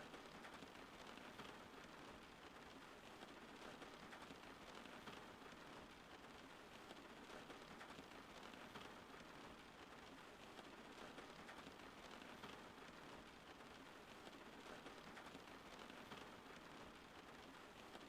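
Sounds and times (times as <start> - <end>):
faint steady rain: 0.0 - 18.0.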